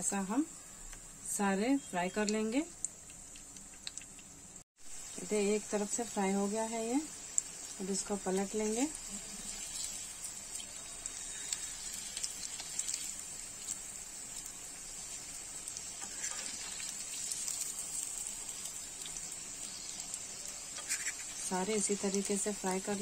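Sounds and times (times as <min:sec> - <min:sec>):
oil sizzling in pan: 0:00.0 - 0:23.0
small crackles: 0:02.2 - 0:05.2, 0:07.2 - 0:23.0.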